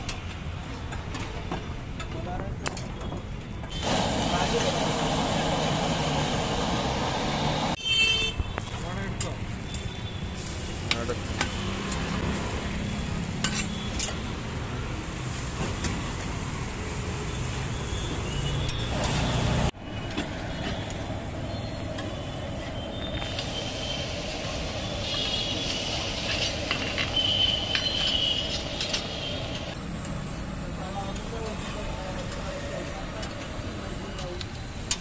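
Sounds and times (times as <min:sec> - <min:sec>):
rumble of passing vehicles: 0:00.0 - 0:07.8, 0:08.6 - 0:35.0.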